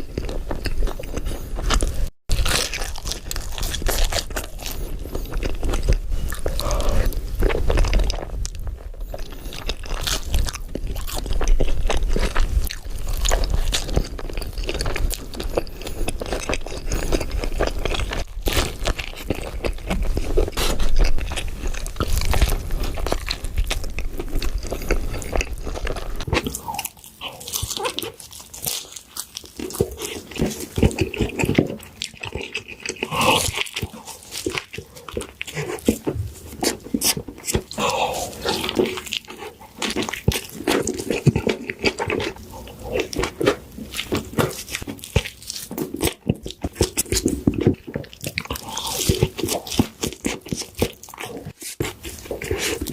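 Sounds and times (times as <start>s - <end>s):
crunchy bites: 0.0s - 52.9s
wet chewing: 0.0s - 52.9s.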